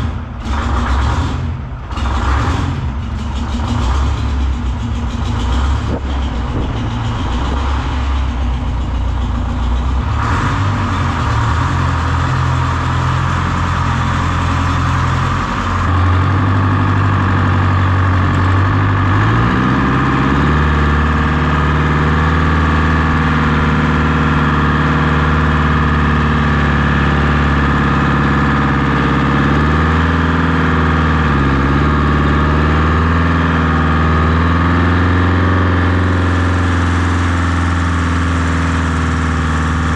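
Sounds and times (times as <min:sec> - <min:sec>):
diesel engine idling: 0:00.0 - 0:39.9
two-stroke diesel tractor engine: 0:00.0 - 0:39.9.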